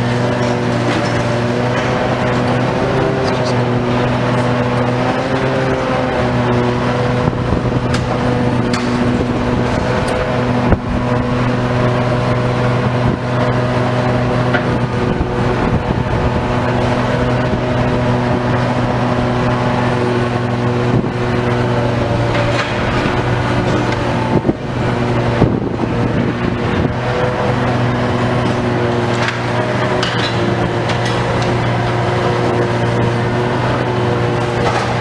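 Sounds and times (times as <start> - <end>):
demolition machine engine running: 0.0 - 35.0.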